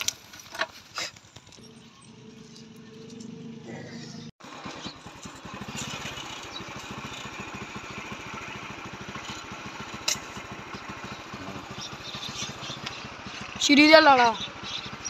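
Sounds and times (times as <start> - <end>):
small engine running: 0.2 - 15.0.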